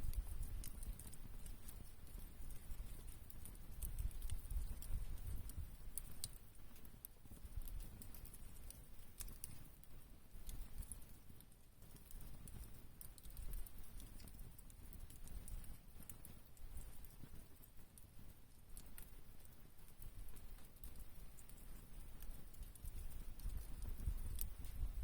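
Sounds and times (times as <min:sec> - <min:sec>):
campfire crackling and popping: 0:00.0 - 0:25.0
low fire rumble: 0:00.0 - 0:25.0.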